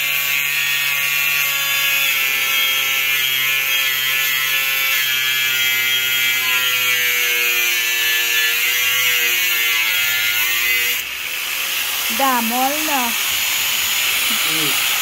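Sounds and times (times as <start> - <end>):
angle grinder cutting steel: 0.0 - 15.0.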